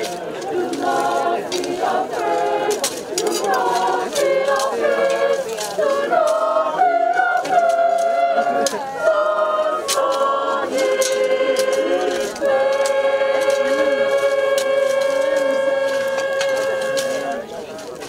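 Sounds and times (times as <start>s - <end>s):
group singing a cappella: 0.0s - 17.5s.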